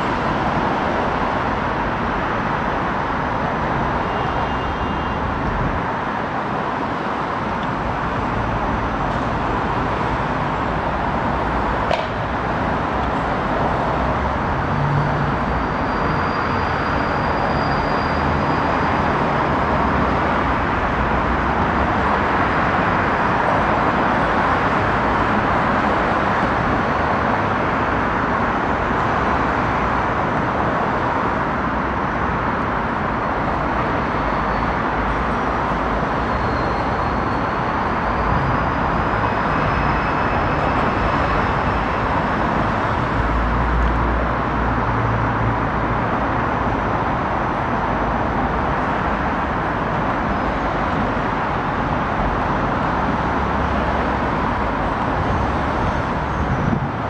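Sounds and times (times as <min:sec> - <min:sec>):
city traffic noise: 0:00.0 - 0:57.0.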